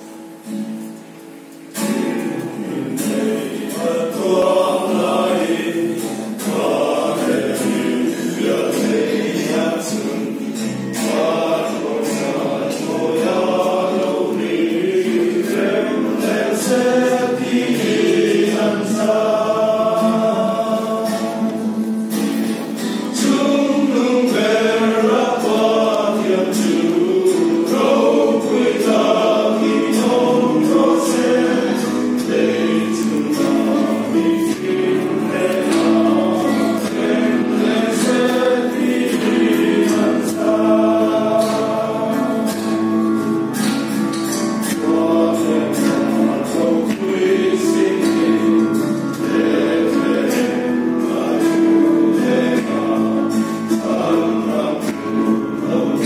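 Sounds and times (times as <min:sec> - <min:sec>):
men's choir singing a hymn: 0:01.7 - 0:56.0.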